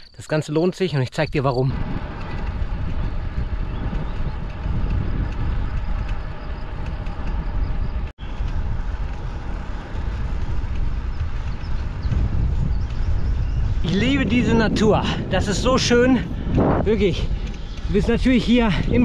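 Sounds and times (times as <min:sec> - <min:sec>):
wind rushing over microphone: 0:01.2 - 0:19.0.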